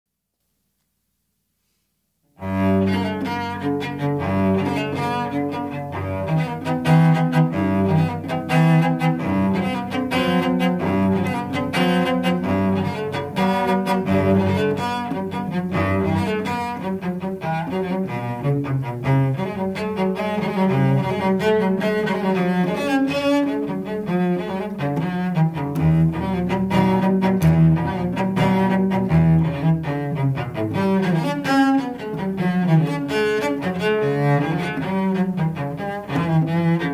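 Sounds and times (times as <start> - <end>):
bowed cello melody: 2.3 - 36.9.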